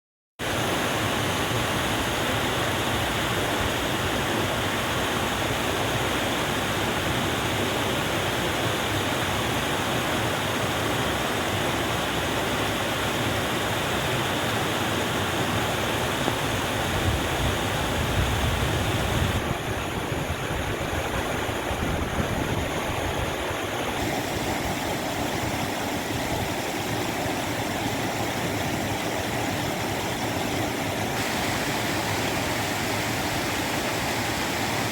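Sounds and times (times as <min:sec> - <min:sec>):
rushing water: 0:00.4 - 0:34.9.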